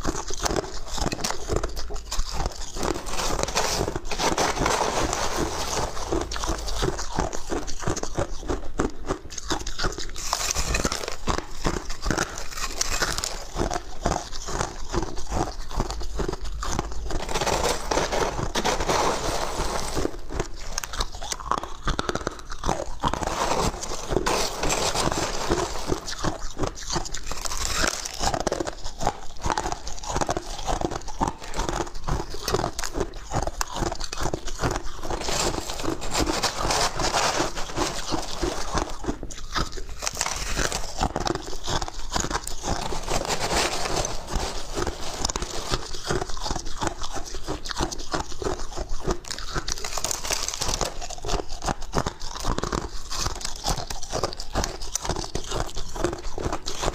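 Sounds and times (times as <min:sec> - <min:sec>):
ice crunching while chewed: 0:00.0 - 0:56.9
spoon scraping ice in tub: 0:00.4 - 0:08.0, 0:15.3 - 0:56.9.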